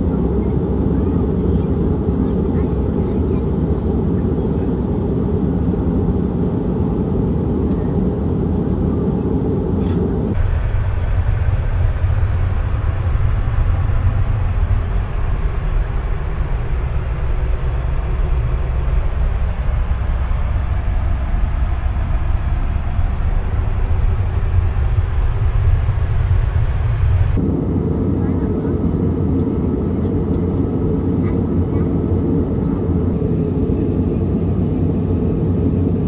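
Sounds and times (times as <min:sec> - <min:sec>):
airplane cabin rumble: 0:00.0 - 0:36.0.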